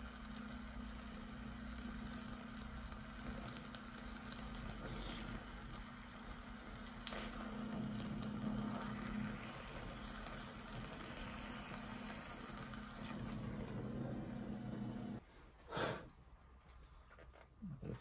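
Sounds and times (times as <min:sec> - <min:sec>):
welding torch flame hissing: 0:00.0 - 0:16.0.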